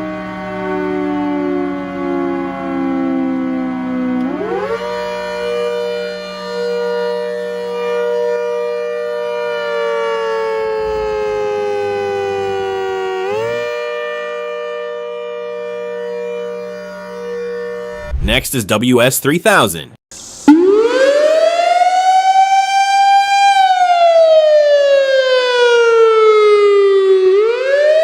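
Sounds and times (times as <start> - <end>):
siren wailing: 0.0 - 18.2, 20.5 - 28.0.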